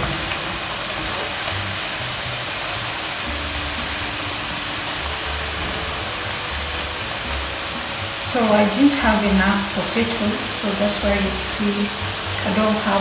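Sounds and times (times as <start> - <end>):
chips sizzling in hot oil: 0.0 - 13.0.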